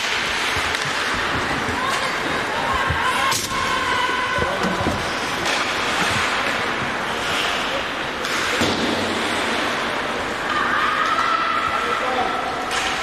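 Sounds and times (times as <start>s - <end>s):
skates scraping ice: 0.0s - 10.6s
ice rink rushing noise: 0.0s - 13.0s.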